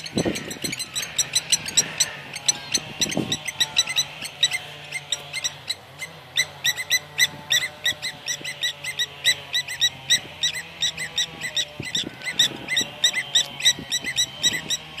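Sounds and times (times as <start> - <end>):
lapwings alarm calls: 0.0 - 15.0.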